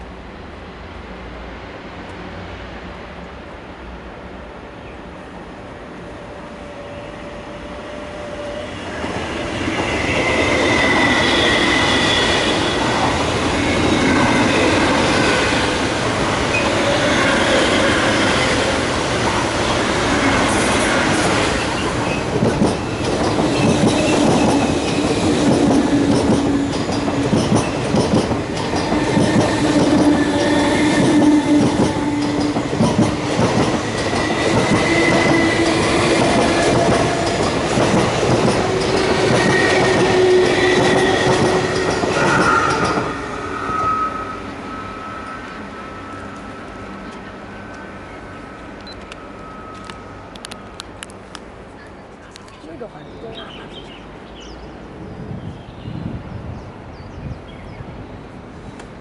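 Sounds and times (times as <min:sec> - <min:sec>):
electric train rumbling past: 0:00.0 - 0:59.0.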